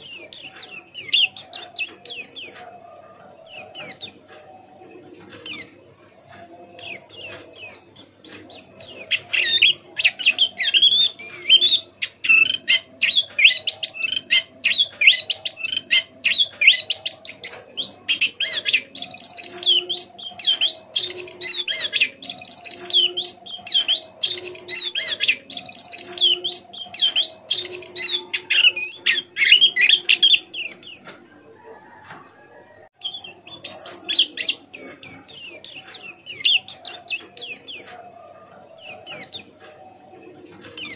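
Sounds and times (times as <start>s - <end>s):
bird twittering song: 0.0s - 4.5s, 5.2s - 31.2s, 32.9s - 40.9s.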